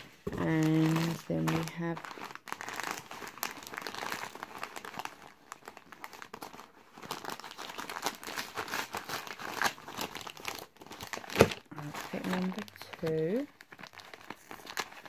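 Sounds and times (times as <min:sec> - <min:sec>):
gift wrap crinkling: 0:00.0 - 0:15.0.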